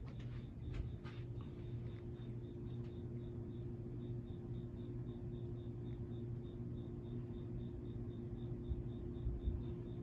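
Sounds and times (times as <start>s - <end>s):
ceiling fan motor humming: 0.0s - 10.0s.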